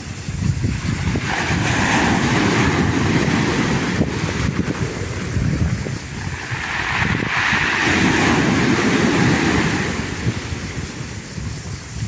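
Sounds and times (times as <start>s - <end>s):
small waves breaking on beach: 0.0s - 12.0s
wind rumbling on microphone: 0.0s - 12.0s.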